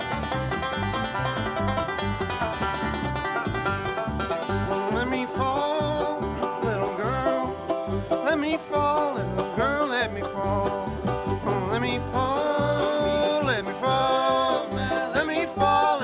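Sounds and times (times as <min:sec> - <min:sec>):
banjo picking: 0:00.0 - 0:16.0
guitar rhythm: 0:00.0 - 0:16.0
sliding melody line: 0:00.0 - 0:16.0
upright bass: 0:00.0 - 0:16.0.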